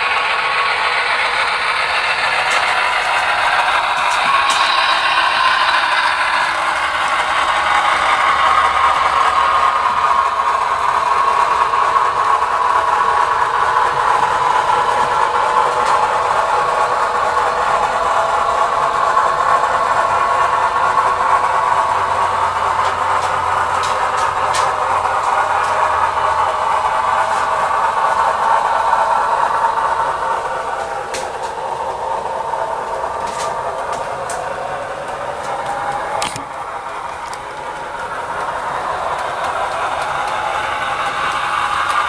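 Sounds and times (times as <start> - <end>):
model train motor whir: 0.0 - 42.0
wheels rattling on track: 0.0 - 42.0.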